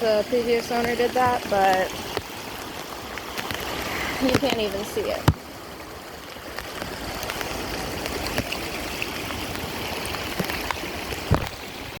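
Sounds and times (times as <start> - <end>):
floodwater running: 0.0 - 12.0.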